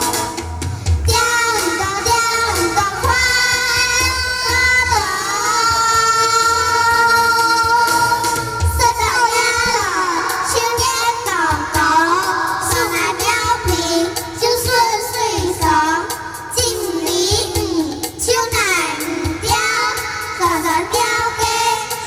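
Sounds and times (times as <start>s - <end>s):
children singing in unison: 0.0s - 0.4s, 1.0s - 22.0s
recorded backing music: 0.0s - 22.0s.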